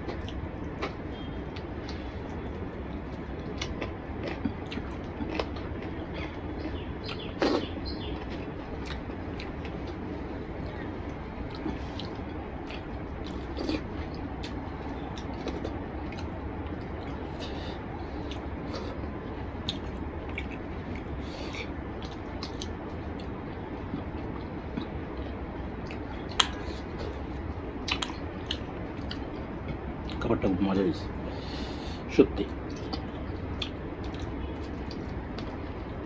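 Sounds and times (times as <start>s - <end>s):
chewing: 0.0s - 30.2s, 32.7s - 35.7s
steady low hum: 0.0s - 36.0s.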